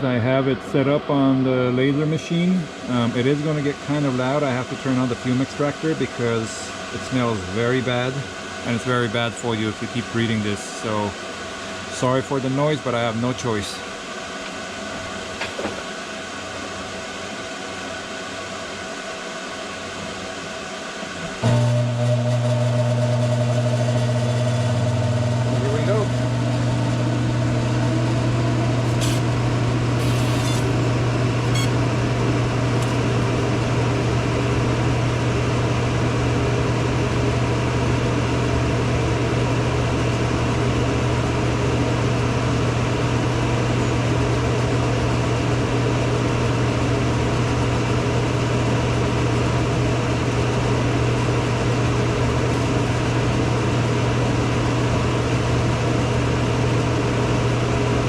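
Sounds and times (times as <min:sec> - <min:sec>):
extractor fan and laser humming: 0:00.0 - 0:58.0.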